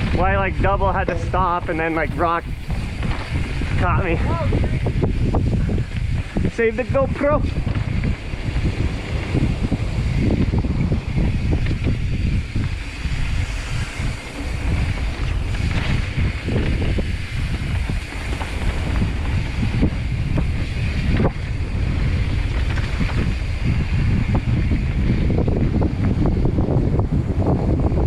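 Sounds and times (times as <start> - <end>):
bike knocking and rattling: 0.0 - 28.0
wind buffeting microphone: 0.0 - 28.0.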